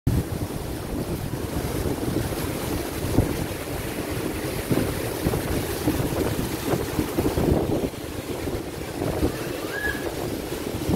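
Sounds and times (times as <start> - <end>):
water rushing along hull: 0.1 - 10.9
wind buffeting microphone: 0.1 - 10.9.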